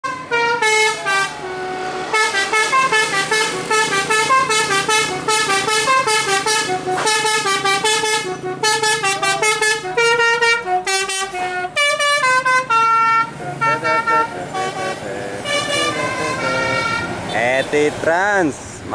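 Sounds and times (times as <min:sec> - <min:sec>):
bus horn playing tune: 0:00.0 - 0:17.3.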